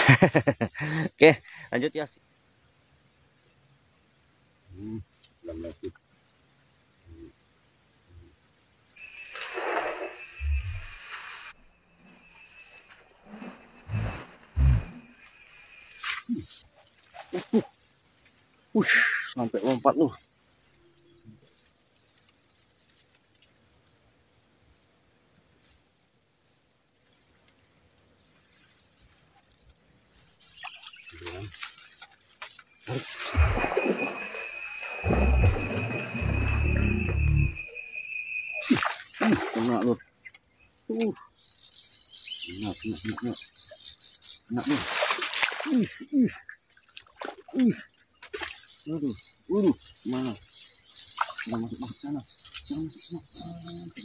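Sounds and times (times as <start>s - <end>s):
high-pitched insect trill: 0.0s - 25.8s, 26.4s - 54.0s.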